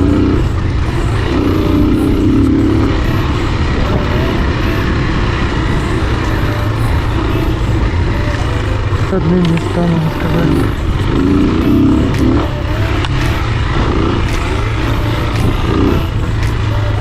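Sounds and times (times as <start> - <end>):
dense rushing noise: 0.0 - 17.0
motorbike engine running: 0.0 - 17.0.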